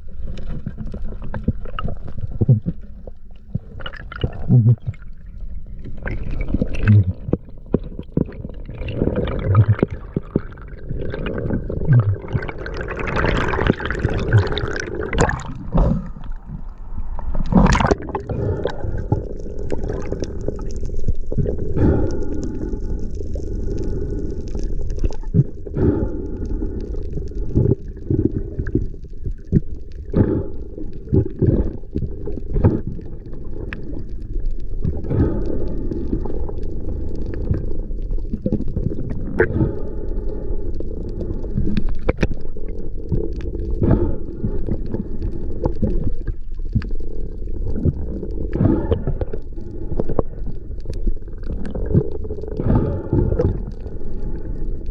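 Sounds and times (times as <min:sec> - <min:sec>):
low rumble: 0:00.0 - 0:54.9
water gurgling underwater: 0:00.0 - 0:54.9.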